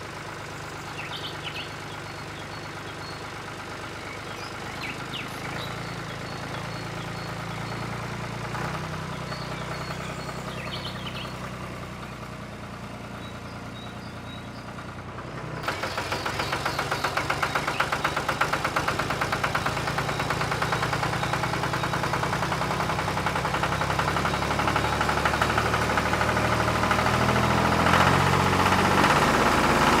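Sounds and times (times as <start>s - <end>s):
engine running with clatter: 0.0s - 30.0s.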